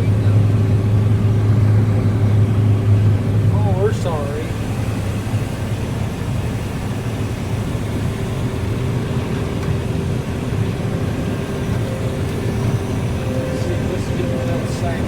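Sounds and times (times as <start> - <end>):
combine harvester drone: 0.0 - 15.0
faint steady whine: 0.0 - 15.0.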